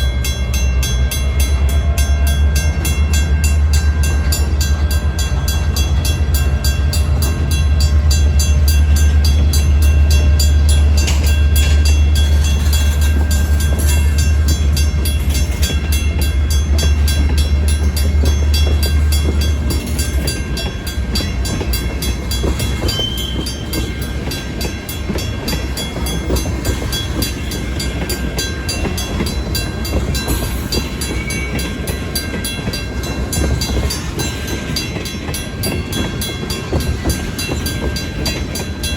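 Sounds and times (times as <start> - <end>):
crossing bell ringing: 0.0 - 38.9
freight train rumbling: 0.0 - 38.9
train cars rolling: 0.0 - 38.9.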